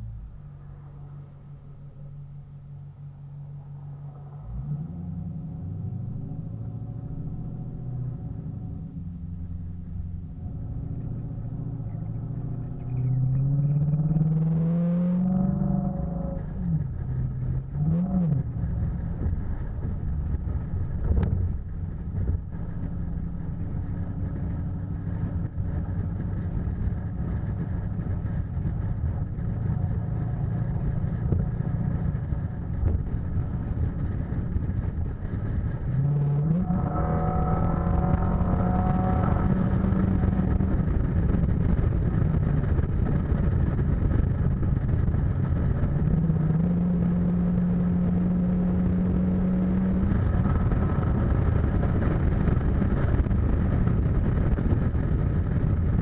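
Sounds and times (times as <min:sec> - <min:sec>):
car engine: 0:00.0 - 0:56.0
tyre and road noise: 0:00.0 - 0:56.0.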